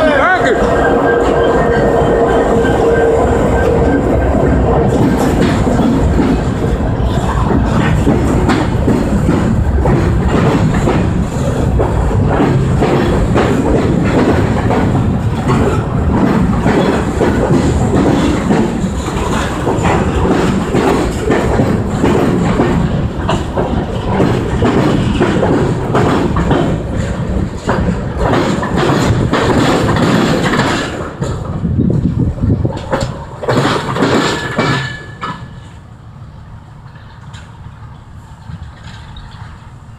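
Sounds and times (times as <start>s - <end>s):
freight train rumble: 0.0s - 39.9s
wheels clacking over rail joints: 0.0s - 39.9s.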